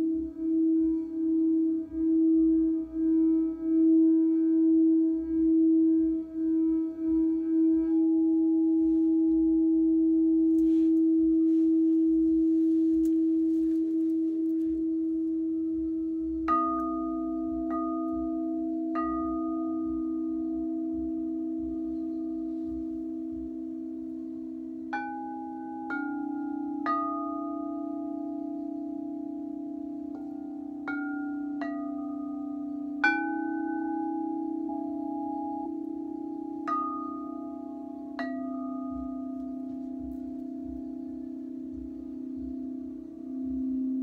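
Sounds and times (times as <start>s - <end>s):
crystal singing bowls ringing: 0.0s - 44.0s.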